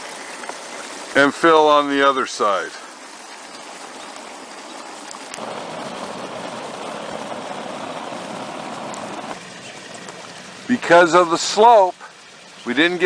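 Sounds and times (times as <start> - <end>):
water running from hose: 0.0 - 13.0.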